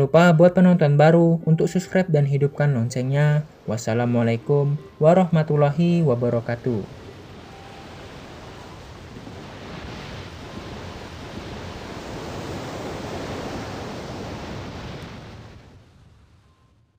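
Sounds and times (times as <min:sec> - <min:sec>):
wave surging ashore: 0:01.9 - 0:16.6.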